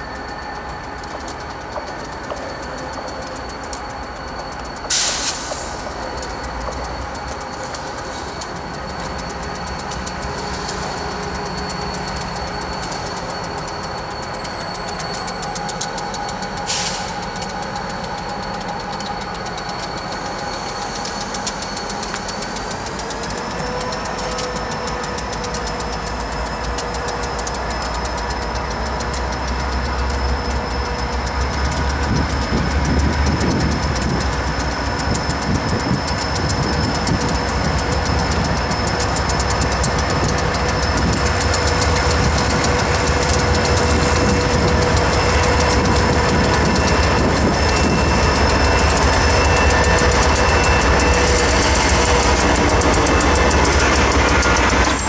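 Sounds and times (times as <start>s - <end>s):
diesel locomotive engines rumbling: 0.0s - 55.0s
train wheels clattering over rails: 0.0s - 55.0s.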